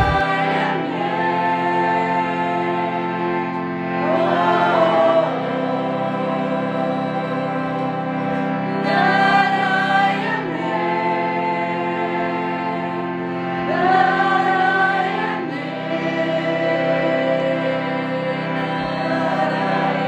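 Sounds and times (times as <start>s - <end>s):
slow music with singing: 0.0s - 20.0s
steady drone: 0.0s - 20.0s.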